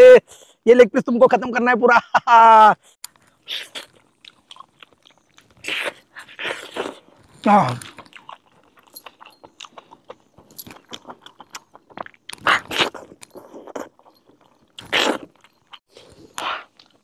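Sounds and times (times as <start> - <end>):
man chewing meat: 3.0 - 17.0.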